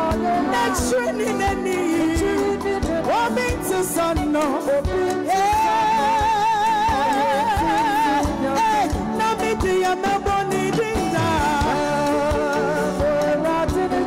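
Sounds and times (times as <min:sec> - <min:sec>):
gospel band playing: 0:00.0 - 0:14.0
woman singing: 0:00.0 - 0:14.0.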